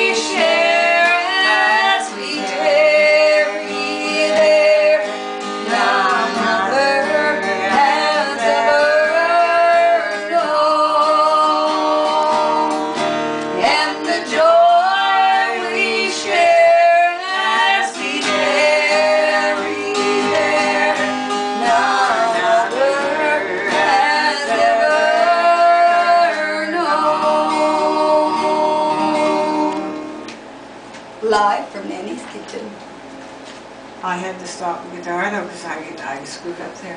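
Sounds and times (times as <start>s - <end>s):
women singing together: 0.0s - 30.3s
acoustic guitar: 0.0s - 36.8s.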